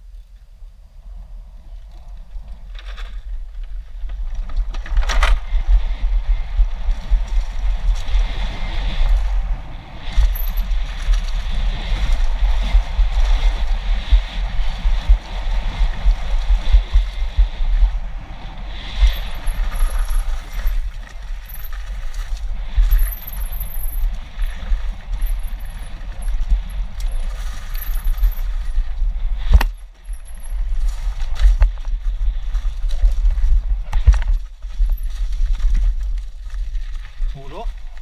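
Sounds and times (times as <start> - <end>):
wind buffeting microphone: 0.4 - 38.0
bike tyres clattering on dirt: 1.7 - 38.0.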